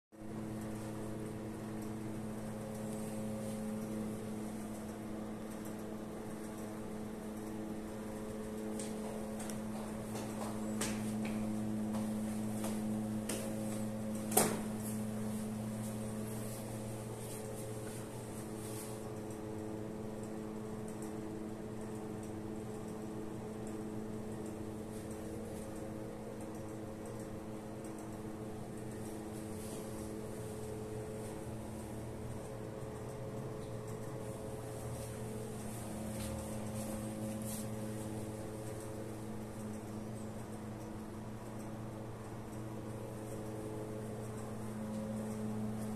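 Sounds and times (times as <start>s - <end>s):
low machine hum: 0.1s - 45.9s.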